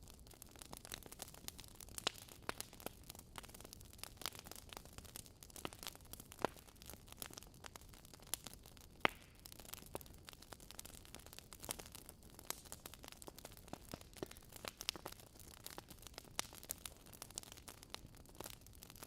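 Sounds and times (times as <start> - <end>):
faint steady hiss: 0.0 - 19.0
wood fire crackling: 0.0 - 19.0.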